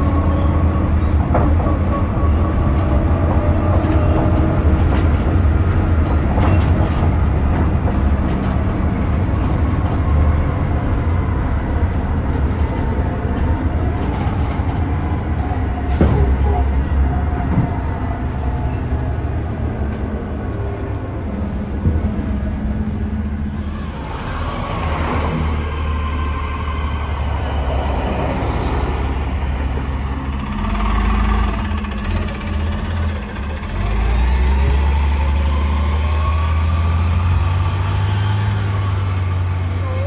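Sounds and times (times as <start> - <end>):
bus engine rumbling: 0.0 - 40.0.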